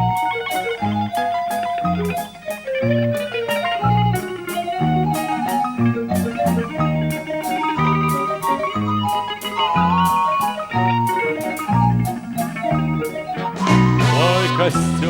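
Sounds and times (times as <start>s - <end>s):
piano and small band playing: 0.0s - 15.0s.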